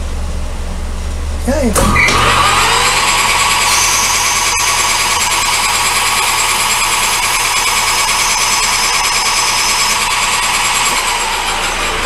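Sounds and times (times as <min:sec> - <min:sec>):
lathe cutting workpiece: 0:01.8 - 0:12.0
metal lathe motor whine: 0:01.8 - 0:12.0.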